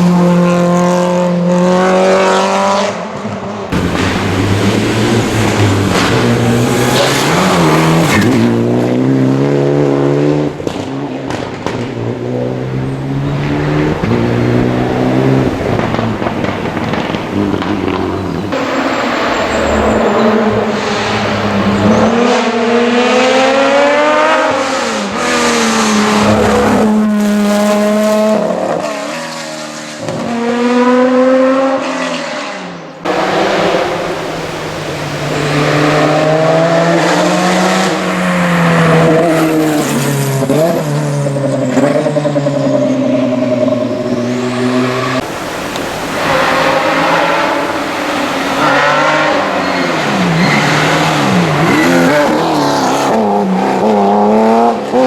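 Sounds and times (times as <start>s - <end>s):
rally car engines revving past: 0.0s - 55.0s.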